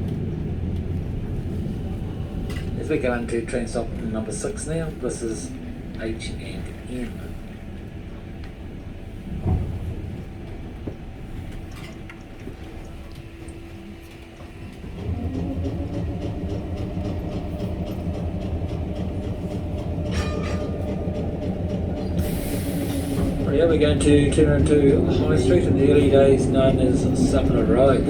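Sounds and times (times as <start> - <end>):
tram rumbling on rails: 0.0 - 28.0.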